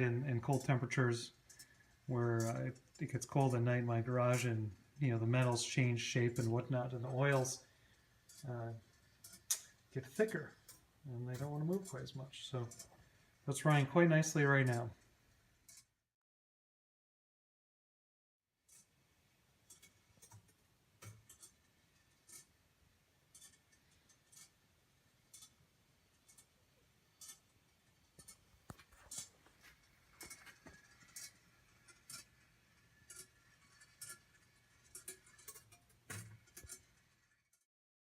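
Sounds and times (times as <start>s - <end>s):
rolling-ball clock clicking: 0.0s - 15.9s, 19.6s - 22.6s, 23.2s - 24.6s, 25.2s - 37.6s.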